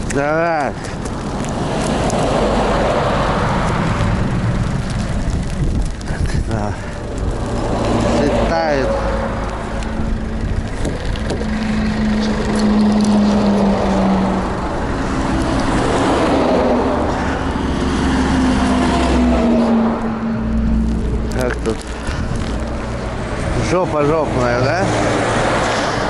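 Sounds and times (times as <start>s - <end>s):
road and wind noise: 0.0s - 26.0s
truck engine under load: 0.0s - 26.0s.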